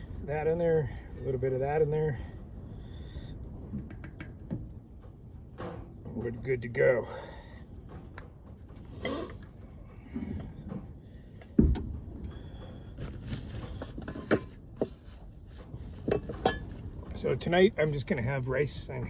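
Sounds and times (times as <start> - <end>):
light clicks and knocks: 3.4 - 19.0.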